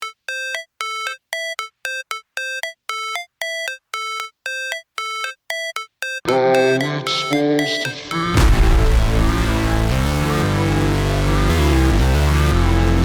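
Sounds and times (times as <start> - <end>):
clipped synth notes: 0.0 - 13.0
electronic beat with bass: 0.0 - 13.0.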